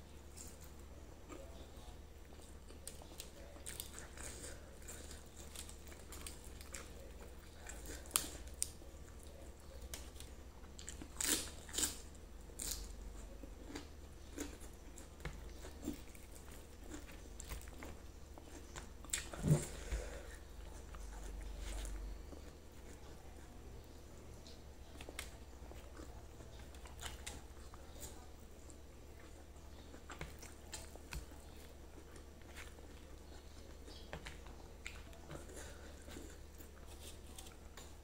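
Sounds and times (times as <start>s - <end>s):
close chewing and mouth sounds: 0.0s - 38.0s.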